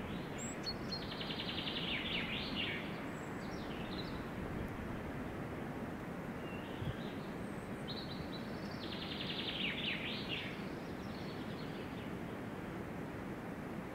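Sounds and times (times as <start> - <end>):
outdoor background hiss: 0.0 - 13.9.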